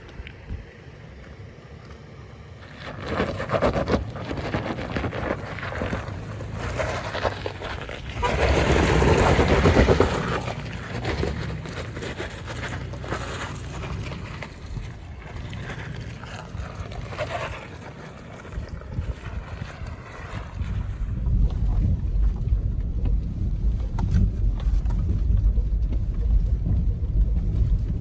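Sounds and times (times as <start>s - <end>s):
car engine running at low speed: 0.0s - 28.0s
wind buffeting microphone: 2.6s - 28.0s.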